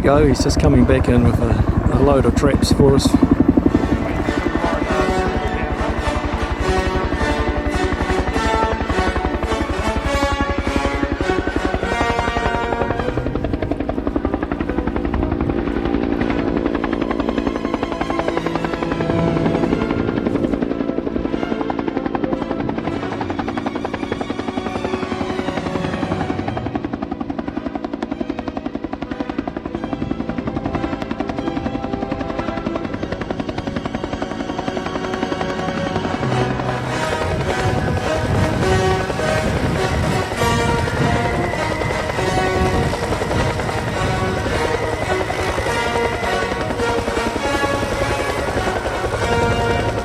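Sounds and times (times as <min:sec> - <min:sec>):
helicopter rotor beating: 0:00.0 - 0:50.0.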